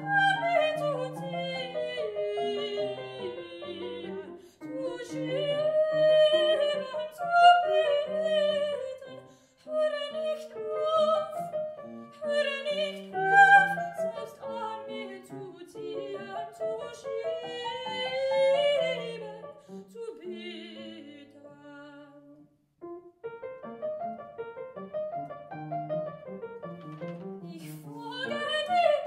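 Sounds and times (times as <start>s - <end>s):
piano accompaniment: 0.0s - 21.6s, 22.2s - 29.0s
person singing classical aria: 0.0s - 22.6s, 26.6s - 29.0s.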